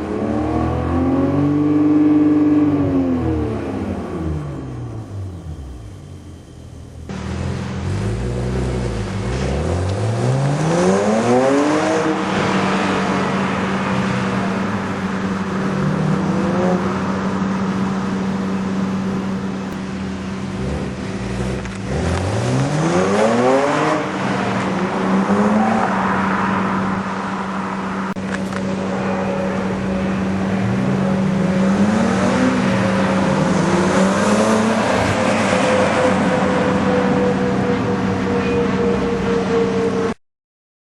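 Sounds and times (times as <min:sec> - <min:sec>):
car engine accelerating hard: 0:00.0 - 0:06.1, 0:07.1 - 0:40.2.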